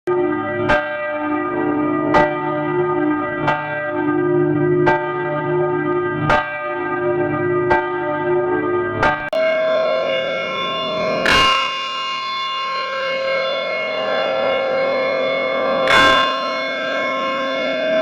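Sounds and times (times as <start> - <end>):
church bell tolling: 0.1 - 18.0.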